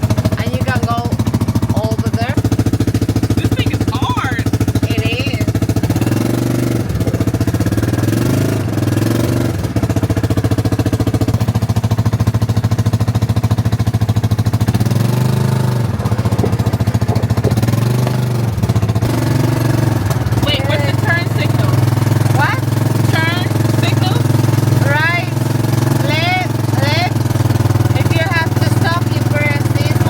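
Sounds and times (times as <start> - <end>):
small engine revving: 0.0 - 30.0.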